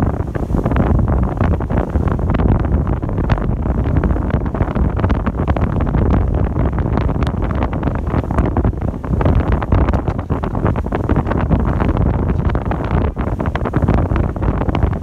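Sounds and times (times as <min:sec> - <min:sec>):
ship running noise: 0:00.0 - 0:15.0
wind buffeting microphone: 0:00.0 - 0:15.0.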